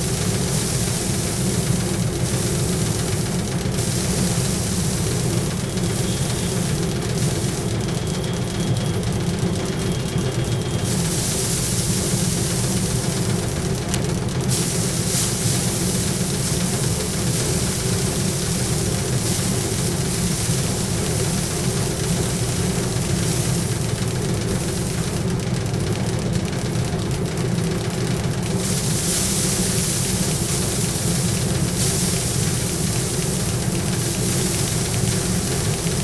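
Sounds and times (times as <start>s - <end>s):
powered thresher running: 0.0s - 36.0s.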